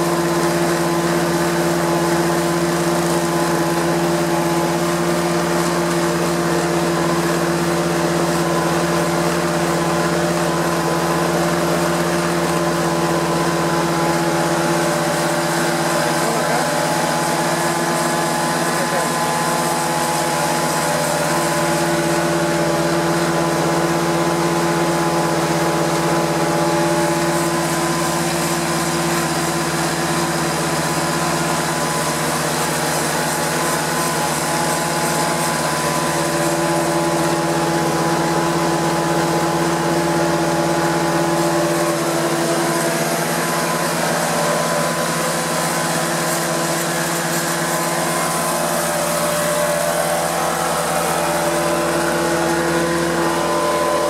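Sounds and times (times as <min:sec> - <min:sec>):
carpet cleaner machine drone: 0:00.0 - 0:54.0.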